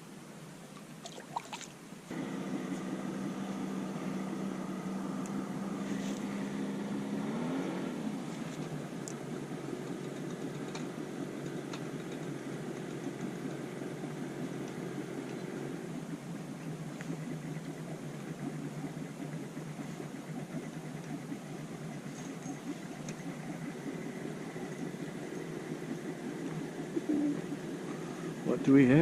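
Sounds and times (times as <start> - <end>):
boat motor running: 2.1 - 29.0.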